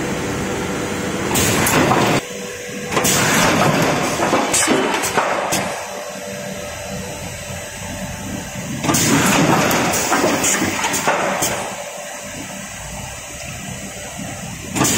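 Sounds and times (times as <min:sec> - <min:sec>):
machine mechanical hum: 0:00.0 - 0:14.9.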